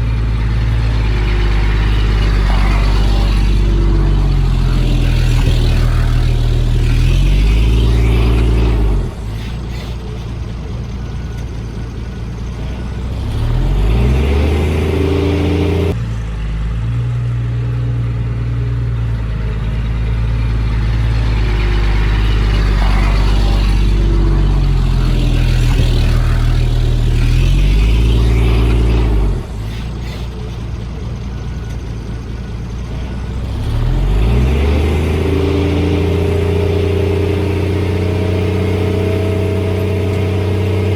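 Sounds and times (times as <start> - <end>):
heavy diesel engine revving: 0.0 - 40.9.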